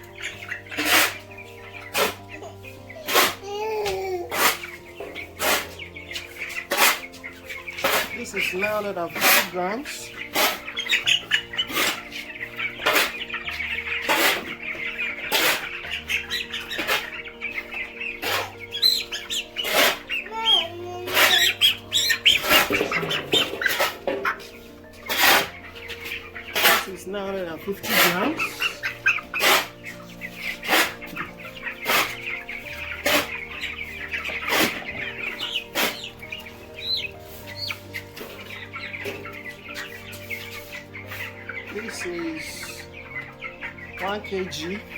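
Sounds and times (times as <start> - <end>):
background music with steady beat: 0.0 - 44.9
chicks peeping: 0.0 - 44.9.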